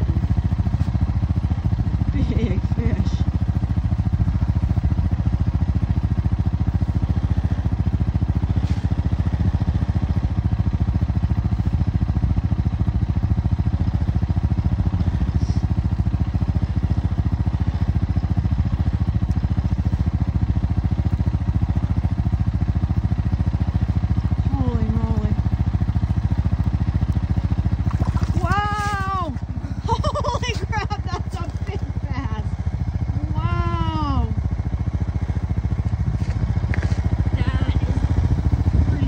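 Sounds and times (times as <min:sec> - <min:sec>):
atv engine idling: 0:00.0 - 0:39.0.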